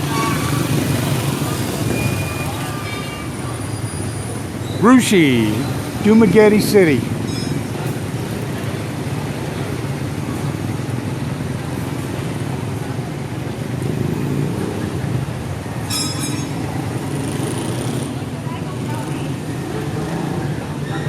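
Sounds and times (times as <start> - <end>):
street traffic passing: 0.0 - 21.0.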